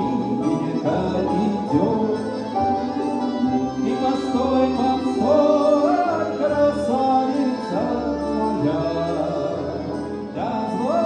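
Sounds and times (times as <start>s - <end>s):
button accordion: 0.0s - 11.0s
man singing: 0.0s - 11.0s.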